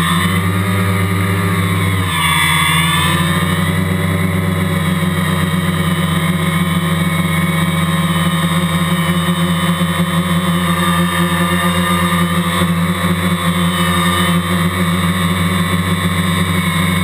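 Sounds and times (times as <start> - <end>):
quadcopter propellers buzzing: 0.0 - 17.0.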